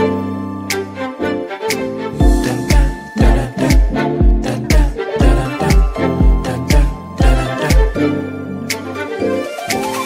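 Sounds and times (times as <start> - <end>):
instrumental pop music: 0.0 - 10.0.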